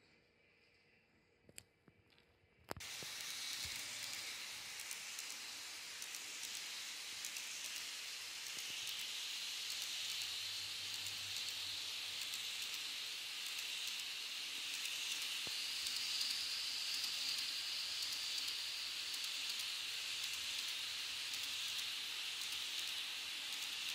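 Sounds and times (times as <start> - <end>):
model train wheels rushing on rails: 2.8 - 23.9.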